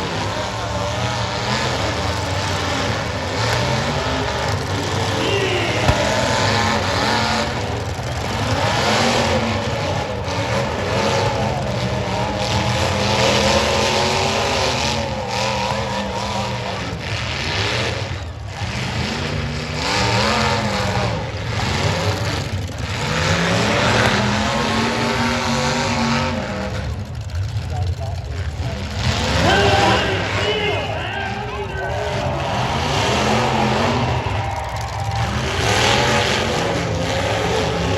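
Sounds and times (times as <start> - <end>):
car engines revving hard: 0.0 - 37.9.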